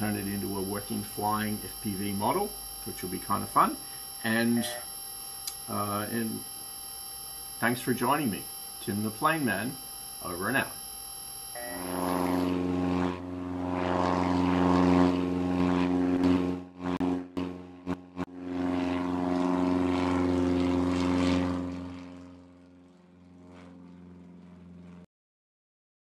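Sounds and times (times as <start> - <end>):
propeller airplane engine: 0.0 - 25.1.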